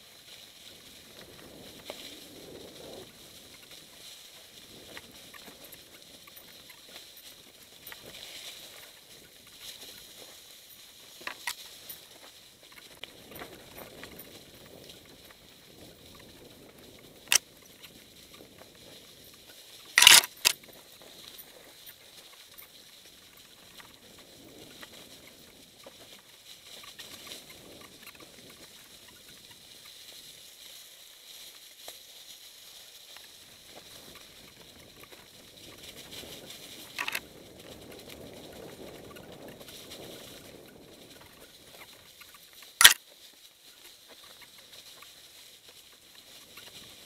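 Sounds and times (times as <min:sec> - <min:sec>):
bike tyres crunching dry leaves: 0:00.0 - 0:47.0.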